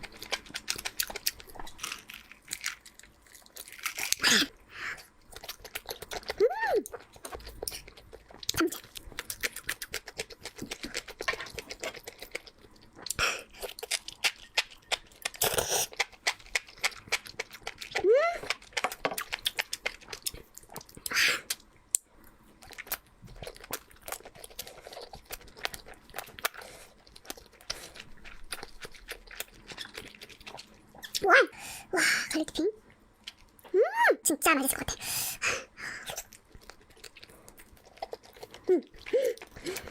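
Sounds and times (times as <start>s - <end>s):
chewing and crunching: 0.0s - 31.3s, 32.3s - 33.8s, 35.8s - 39.9s.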